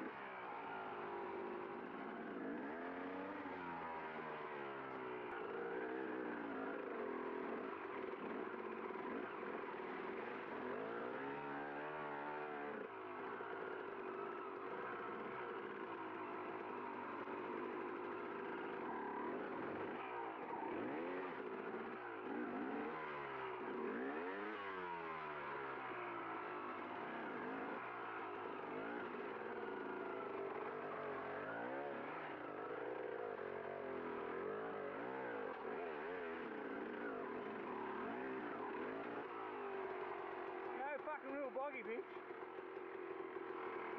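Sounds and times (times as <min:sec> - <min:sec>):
dirt bike engine revving: 0:00.0 - 0:41.2.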